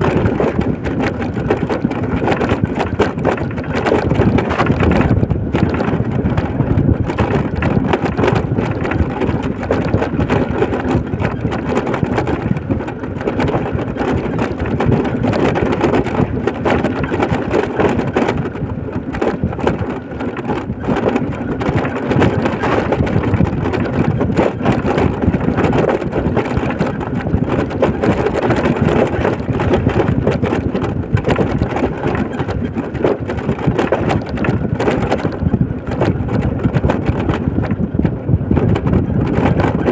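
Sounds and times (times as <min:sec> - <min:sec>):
wind buffeting moving vehicle: 0:00.0 - 0:39.9.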